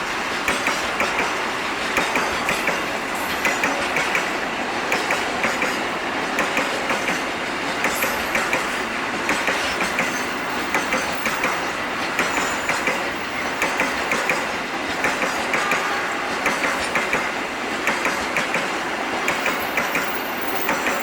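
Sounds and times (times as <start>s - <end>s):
train rumble: 0.0s - 21.0s
train wheels clacking on rail joints: 0.0s - 21.0s.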